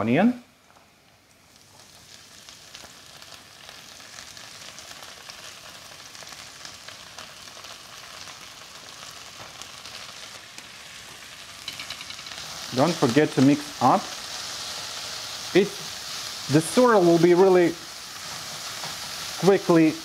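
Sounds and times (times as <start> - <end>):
vegetables sizzling in frying pan: 0.5 - 20.0.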